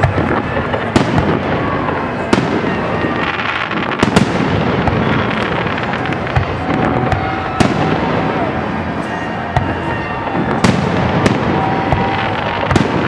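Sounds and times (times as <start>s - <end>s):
fireworks crackling: 0.0s - 13.0s
fireworks shells bursting: 0.0s - 13.0s.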